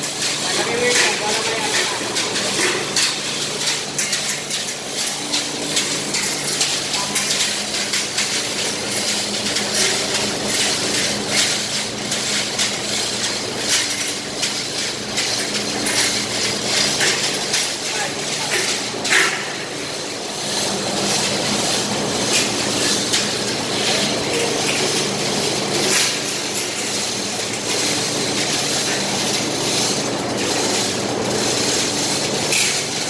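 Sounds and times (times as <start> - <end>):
chain hoist clicking and clanking: 0.0 - 33.0.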